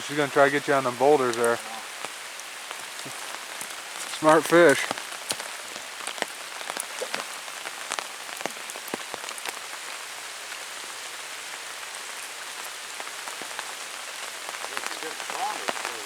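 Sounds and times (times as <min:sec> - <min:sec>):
heavy rain hissing: 0:00.0 - 0:16.0
raindrops ticking close by: 0:00.0 - 0:16.0.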